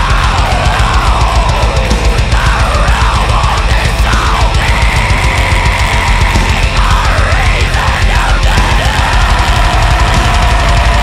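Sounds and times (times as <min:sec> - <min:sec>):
distorted guitar and bass: 0:00.0 - 0:11.0
fast heavy drumming: 0:00.0 - 0:11.0.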